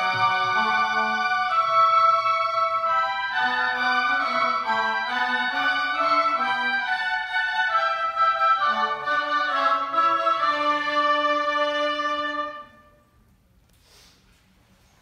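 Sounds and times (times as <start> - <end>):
oboe and english horn chords: 0.0 - 13.2.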